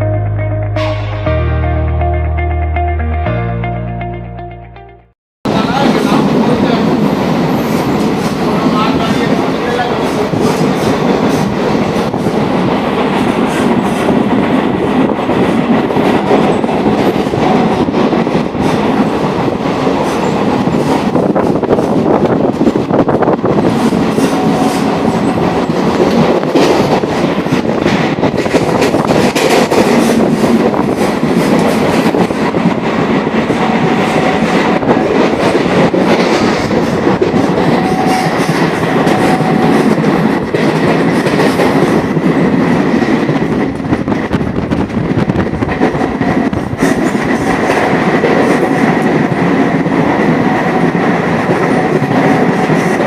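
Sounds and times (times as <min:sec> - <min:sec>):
train wheels rumbling on rails: 0:05.5 - 0:53.0.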